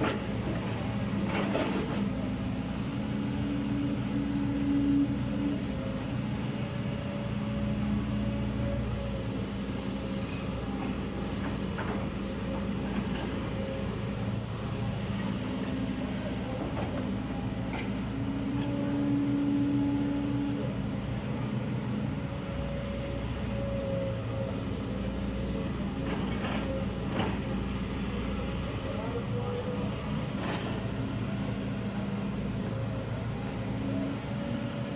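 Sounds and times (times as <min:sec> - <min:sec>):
backhoe diesel engine under load: 0:00.0 - 0:34.9.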